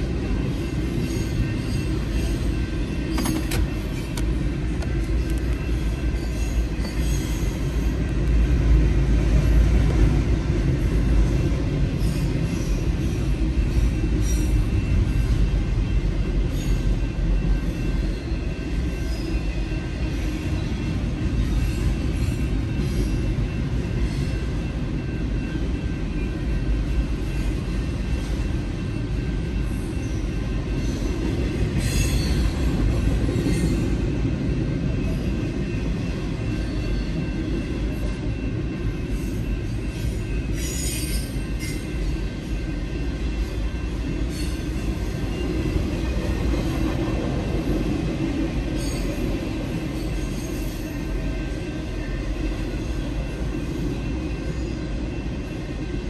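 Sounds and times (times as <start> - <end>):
crossing warning bell ringing: 0.0 - 56.0
freight train rumbling: 0.0 - 56.0.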